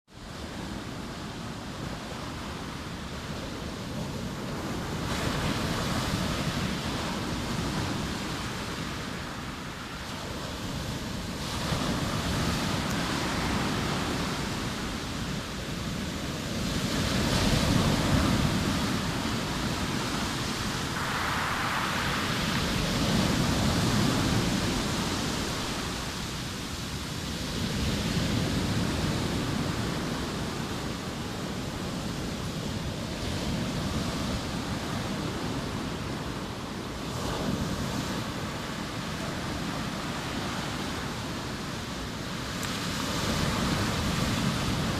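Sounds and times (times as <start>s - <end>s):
sea waves breaking on shore: 0.2s - 44.9s.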